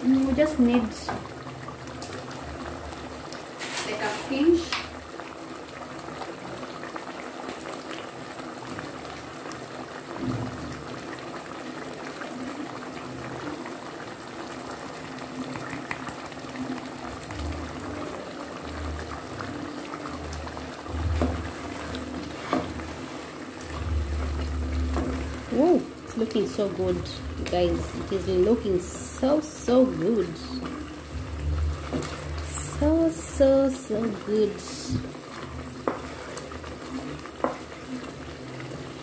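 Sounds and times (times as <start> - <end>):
curry bubbling in a pot: 0.0 - 39.0.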